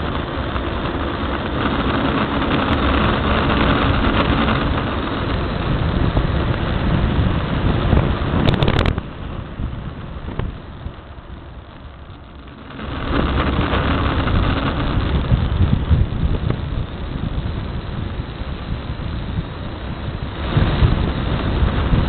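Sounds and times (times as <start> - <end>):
air rushing: 0.0 - 22.0
tyres rumbling on asphalt: 0.0 - 22.0.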